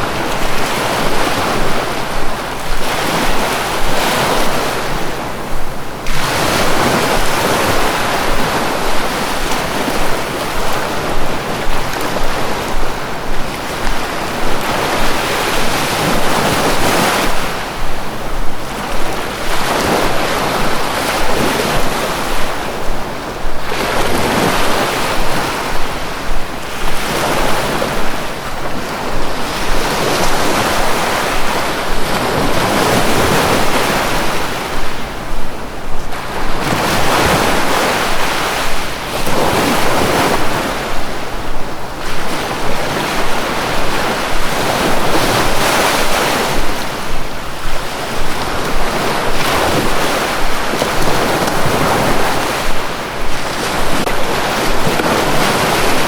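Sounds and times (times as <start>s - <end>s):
sea waves breaking ashore: 0.0s - 56.0s.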